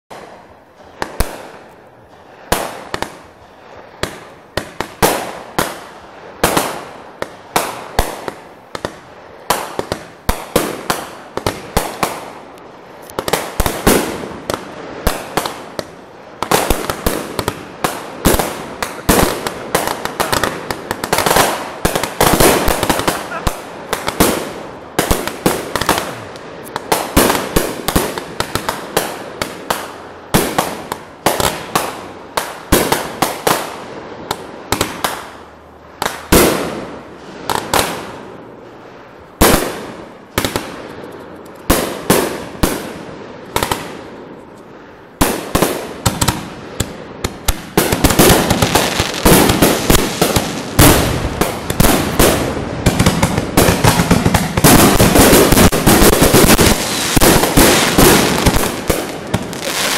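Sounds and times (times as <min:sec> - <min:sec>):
fireworks bangs and crackling: 0:00.1 - 0:59.9.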